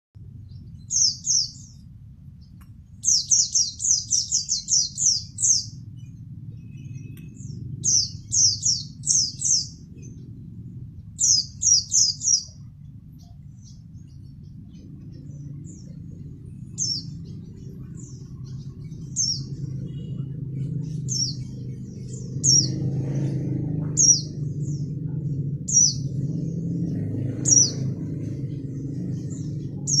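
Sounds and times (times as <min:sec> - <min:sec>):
low rumble: 0:00.2 - 0:30.0
songbird chirping: 0:00.2 - 0:30.0.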